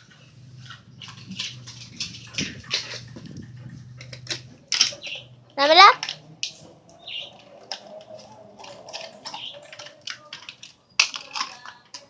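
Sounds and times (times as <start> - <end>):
puppy playing with toy: 0.0 - 12.0.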